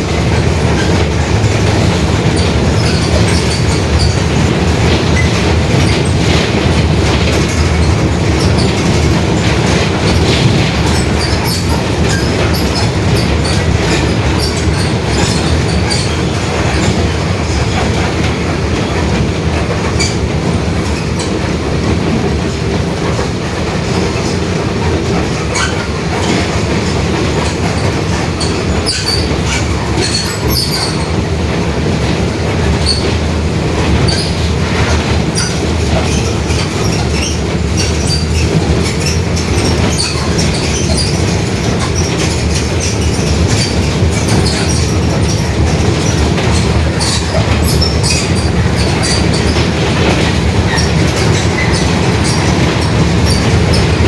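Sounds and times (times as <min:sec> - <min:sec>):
body rattles and clicks: 0:00.0 - 0:54.0.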